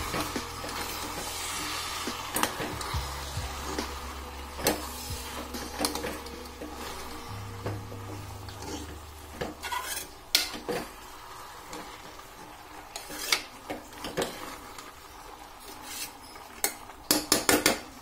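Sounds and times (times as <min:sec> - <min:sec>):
spoon stirring and scraping pot: 0:00.0 - 0:17.8
faint sizzle: 0:00.0 - 0:18.0.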